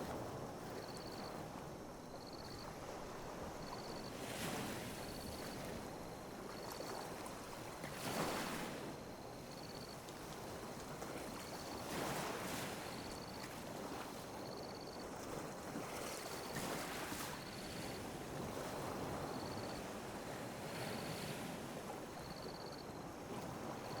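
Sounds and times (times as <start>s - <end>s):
sea waves lapping on a beach: 0.0s - 24.0s.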